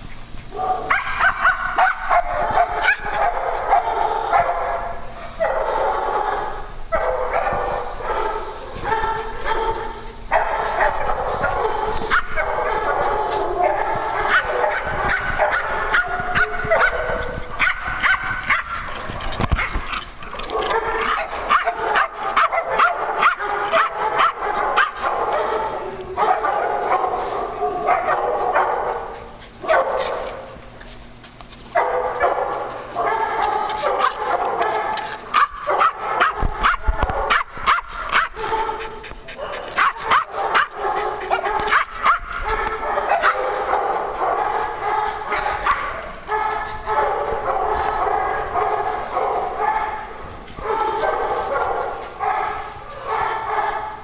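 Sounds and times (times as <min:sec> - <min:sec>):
dogs barking and yipping: 0:00.0 - 0:54.0.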